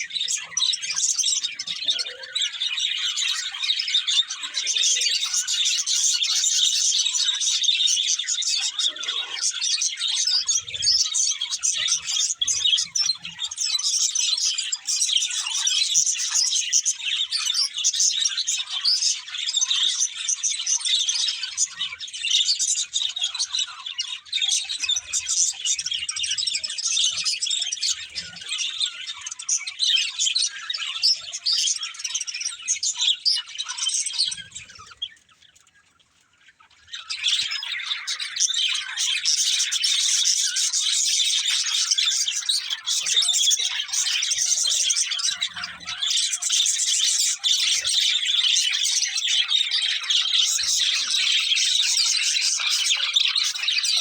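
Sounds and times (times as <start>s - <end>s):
budgerigars chirping: 0.0s - 35.8s, 36.5s - 54.0s.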